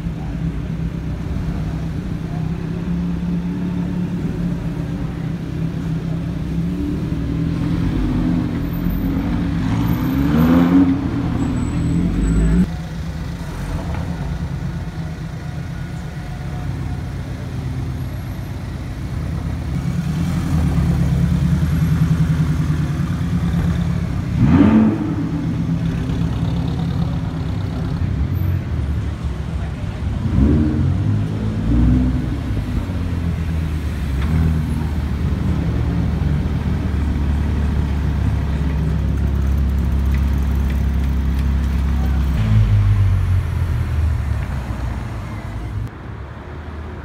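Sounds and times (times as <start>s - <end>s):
sports car engine at low speed: 0.0s - 46.0s
car engine in slow traffic: 0.0s - 47.0s.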